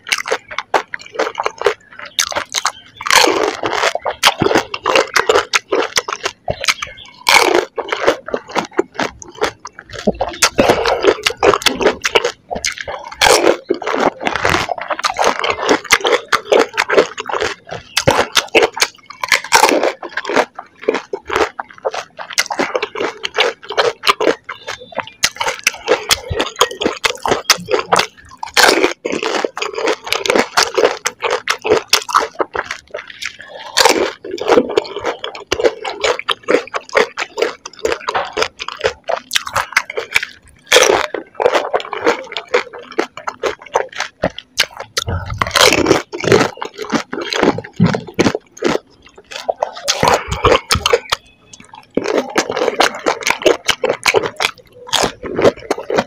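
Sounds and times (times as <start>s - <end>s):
crunching and chewing crisp shells: 0.0s - 56.0s.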